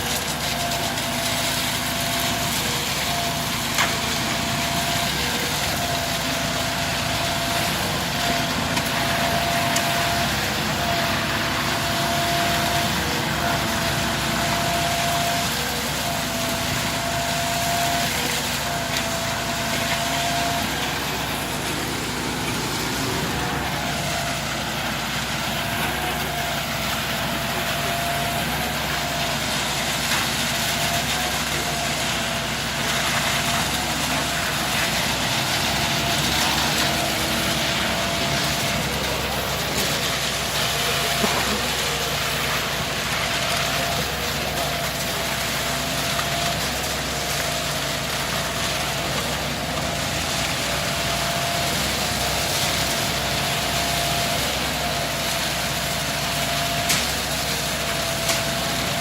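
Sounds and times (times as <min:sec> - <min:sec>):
engine running with whine: 0:00.0 - 0:59.0.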